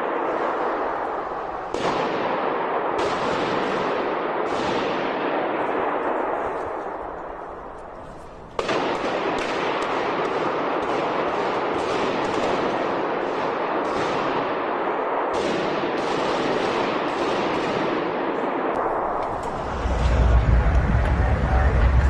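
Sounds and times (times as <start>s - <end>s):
automatic gunfire echoing: 0.0s - 19.2s.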